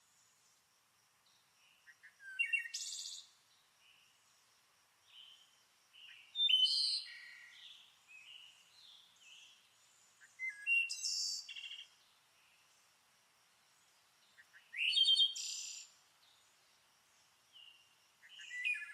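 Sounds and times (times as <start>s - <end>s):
songbirds chirping and trilling: 1.2s - 18.9s.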